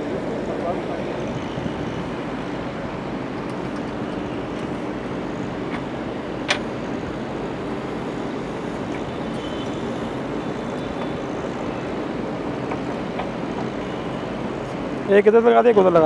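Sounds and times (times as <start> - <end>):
steady mechanical drone: 0.0 - 16.0.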